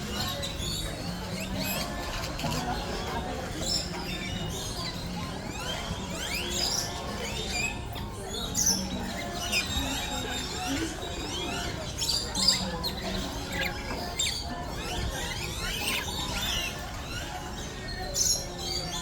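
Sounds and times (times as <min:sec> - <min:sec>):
birds squawking and chirping: 0:00.0 - 0:19.0.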